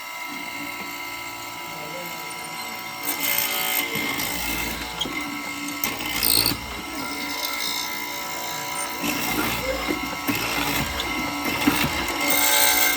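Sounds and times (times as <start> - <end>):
power tool cutting wood: 0.0 - 12.9.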